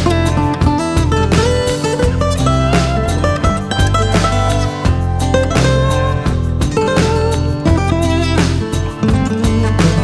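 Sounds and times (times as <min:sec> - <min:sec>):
acoustic guitar strumming: 0:00.0 - 0:10.0
steady bass: 0:00.0 - 0:10.0.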